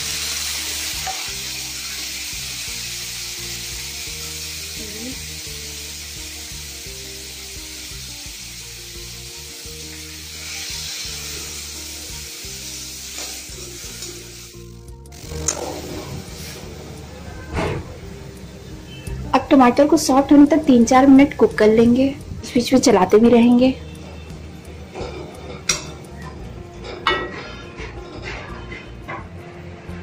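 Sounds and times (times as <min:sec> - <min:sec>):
tomatoes sizzling in hot oil: 0:00.0 - 0:17.4, 0:18.0 - 0:27.4
soft background music: 0:00.0 - 0:30.0.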